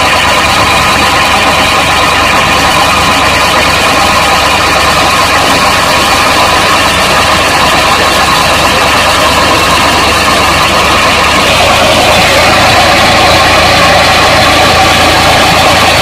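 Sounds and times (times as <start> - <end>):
diesel tractor engine running: 0.0 - 16.0
water gushing into tank: 0.0 - 16.0.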